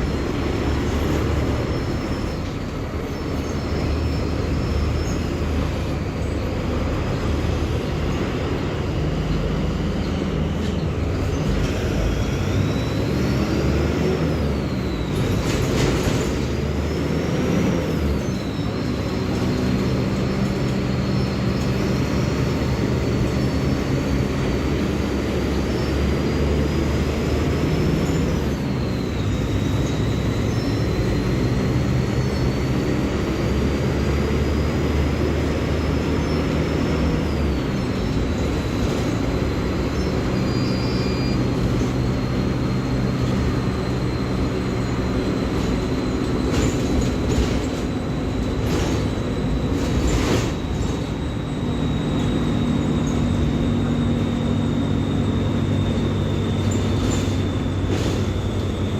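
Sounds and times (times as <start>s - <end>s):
bus engine whining: 0.0s - 58.9s.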